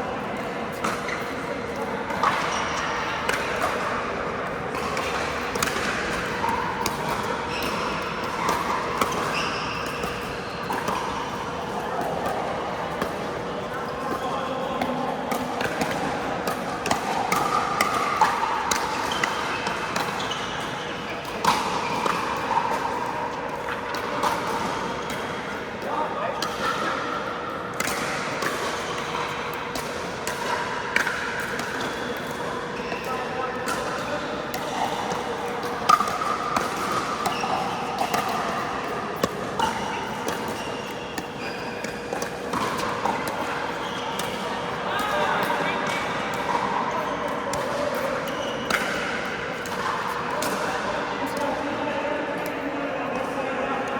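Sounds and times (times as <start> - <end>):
indoor hall noise: 0.0 - 53.9.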